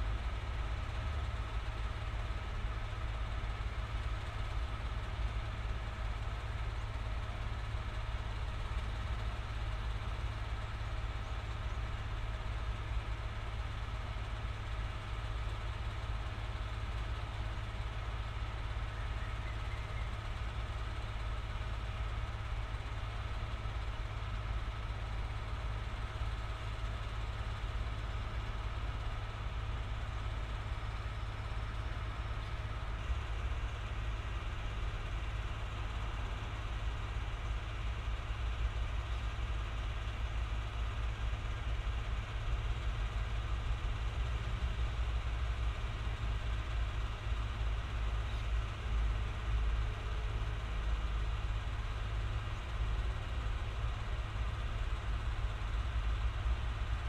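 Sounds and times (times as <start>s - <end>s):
diesel train engine idling: 0.0s - 57.0s.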